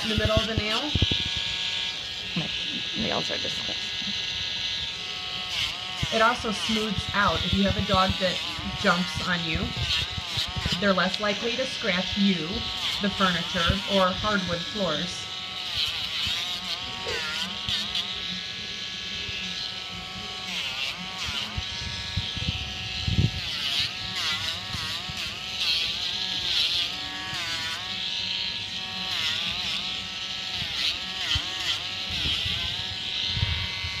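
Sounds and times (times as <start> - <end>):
nail grinder whining: 0.0 - 34.0.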